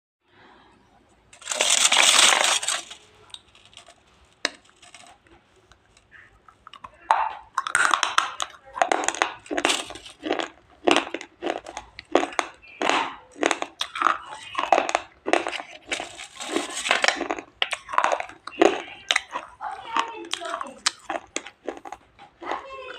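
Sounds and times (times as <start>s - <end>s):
crunchy food chewing: 1.4s - 22.9s.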